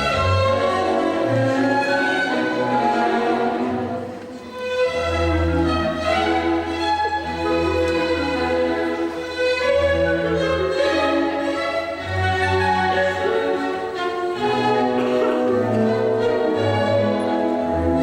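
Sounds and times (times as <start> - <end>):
orchestral music with bowed strings: 0.0 - 18.0.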